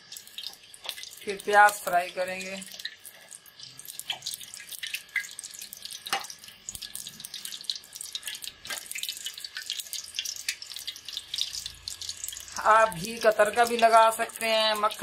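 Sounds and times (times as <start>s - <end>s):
oil crackling in a frying pan: 0.0s - 15.0s.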